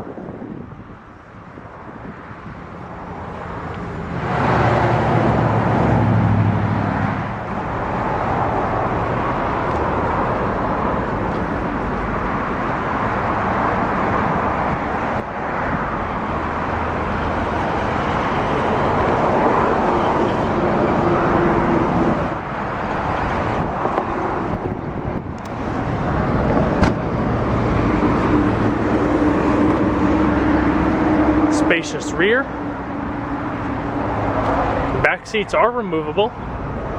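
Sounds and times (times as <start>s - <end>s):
steady rush of traffic: 0.0s - 36.9s
vehicle passing: 2.1s - 36.9s.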